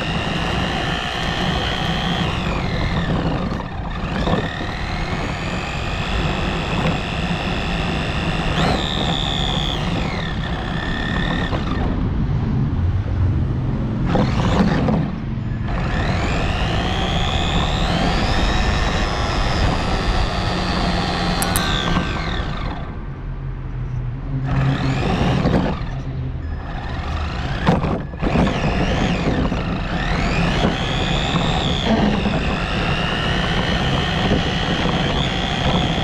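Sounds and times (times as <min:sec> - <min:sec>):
remote-control car motor whining: 0:00.0 - 0:12.0, 0:14.1 - 0:22.9, 0:24.5 - 0:36.0
tyres rumbling on road: 0:00.0 - 0:36.0.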